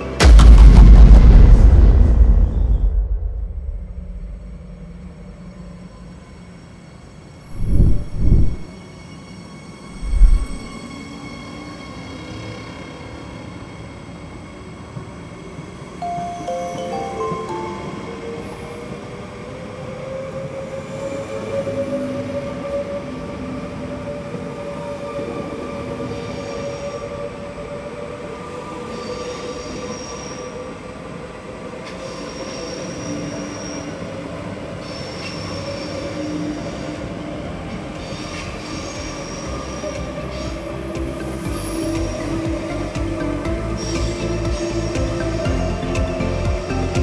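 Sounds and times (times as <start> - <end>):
electric train whine: 2.7 - 47.0
train wheels squealing: 4.7 - 16.0, 17.0 - 42.8, 43.5 - 47.0.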